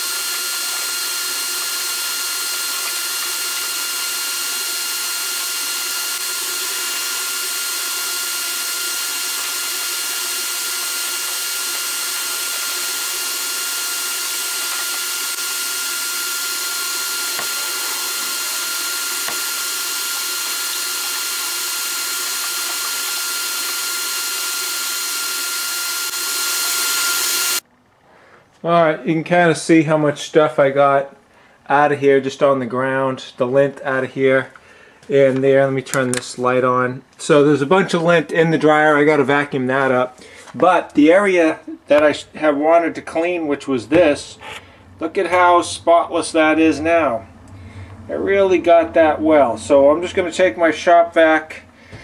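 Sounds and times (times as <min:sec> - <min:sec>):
shop vac motor whining: 0:00.0 - 0:28.6, 0:37.1 - 0:52.0.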